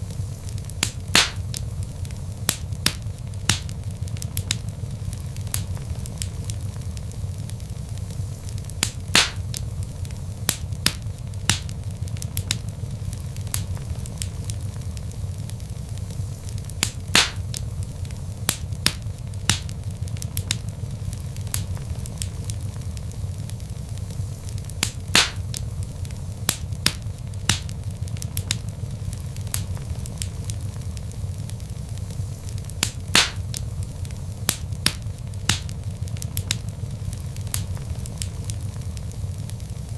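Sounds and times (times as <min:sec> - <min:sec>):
burning logs crackling and popping: 0:00.0 - 0:39.9
low rumble of flame: 0:00.0 - 0:39.9.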